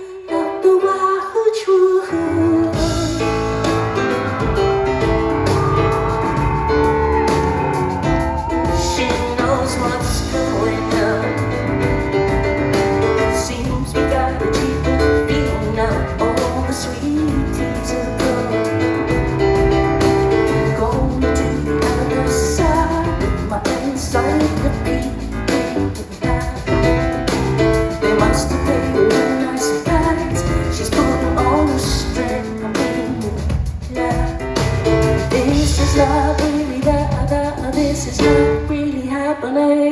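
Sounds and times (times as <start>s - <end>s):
live band with piano and drums: 0.0s - 39.9s
woman singing: 0.0s - 39.9s.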